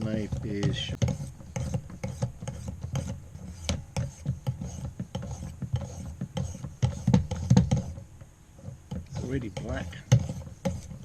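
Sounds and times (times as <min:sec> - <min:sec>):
stone scraping knife blade: 0:00.4 - 0:08.0, 0:08.6 - 0:11.0.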